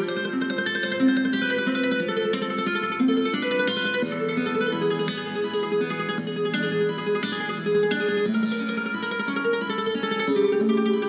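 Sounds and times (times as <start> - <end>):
plucked guitar tune: 0.0 - 11.0.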